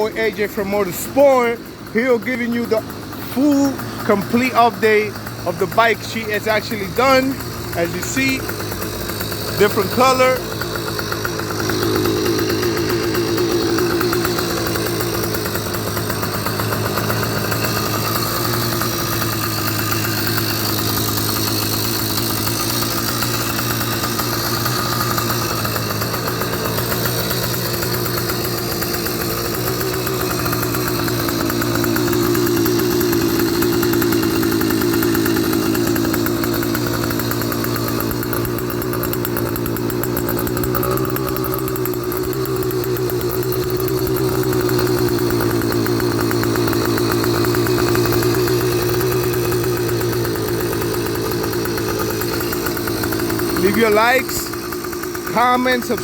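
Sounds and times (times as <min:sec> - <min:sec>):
two-stroke engine idling: 0:00.0 - 0:56.0.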